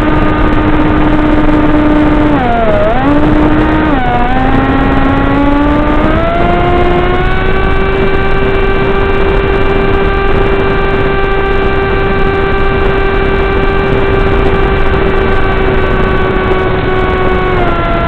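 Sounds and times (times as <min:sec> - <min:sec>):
electric motor and propeller whining: 0:00.0 - 0:18.0
steady rushing noise: 0:00.0 - 0:18.0.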